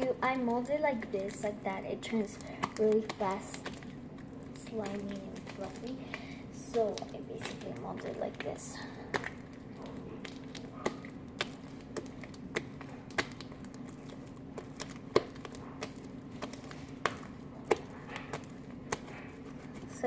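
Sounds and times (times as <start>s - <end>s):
slime popping and clicking: 0.0s - 19.3s.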